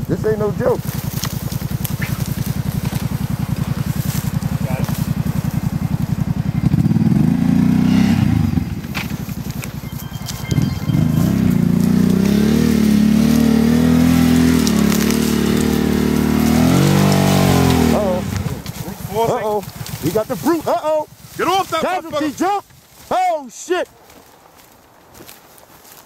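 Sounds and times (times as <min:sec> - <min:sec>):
off-road vehicle engine revving: 0:00.0 - 0:22.4.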